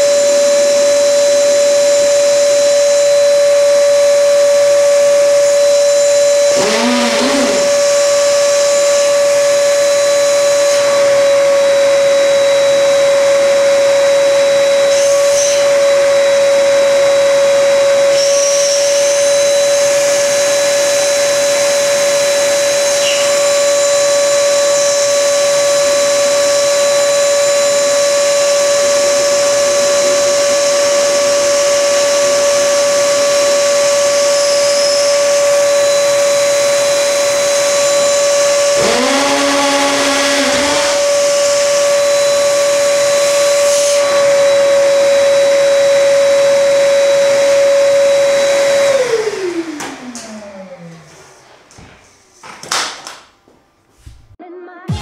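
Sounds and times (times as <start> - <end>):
vacuum cleaner motor whine: 0.0 - 51.8.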